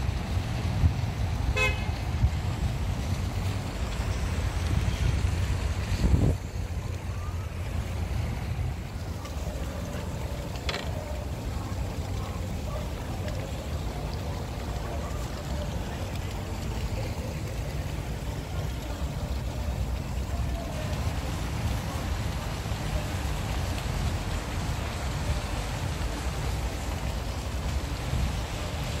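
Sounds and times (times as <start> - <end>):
fountain jets splashing into pools: 0.0 - 29.0.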